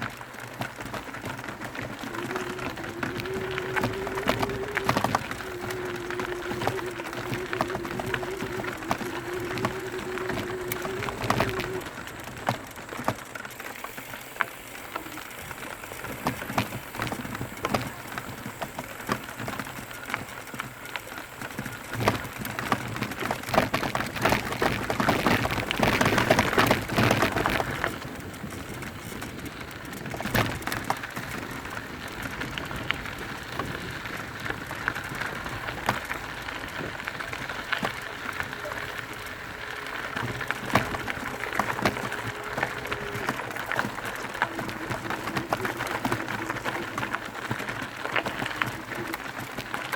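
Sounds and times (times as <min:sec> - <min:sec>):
bike rattling: 0:00.0 - 0:49.9
tyres crunching over dirt and stones: 0:00.0 - 0:49.9.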